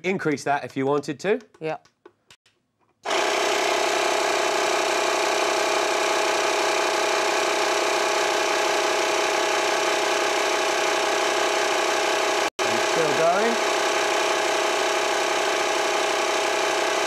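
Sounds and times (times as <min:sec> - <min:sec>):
electric air compressor running: 0:03.0 - 0:17.0.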